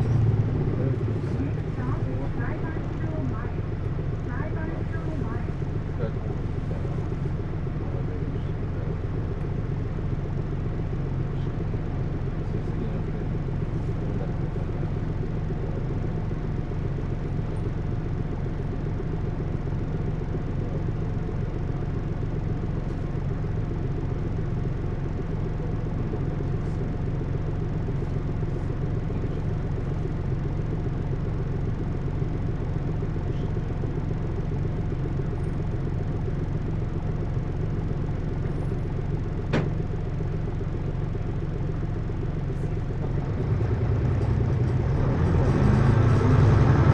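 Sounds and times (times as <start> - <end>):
bus engine rumble from inside: 0.0 - 46.9.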